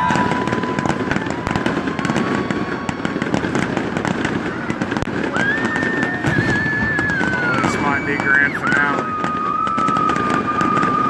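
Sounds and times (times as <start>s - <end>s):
firework high whistle: 0.0s - 11.0s
fireworks crackling pops: 0.0s - 11.0s.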